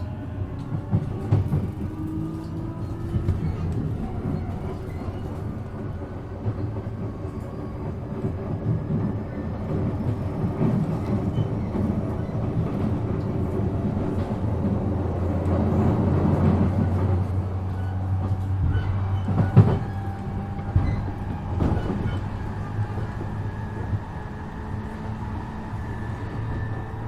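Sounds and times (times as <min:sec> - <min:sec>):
electric train motor and wheels: 0:00.0 - 0:27.0.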